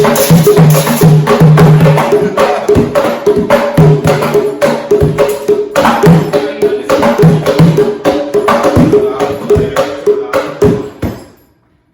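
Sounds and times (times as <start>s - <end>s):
hand drums playing: 0.0s - 11.4s.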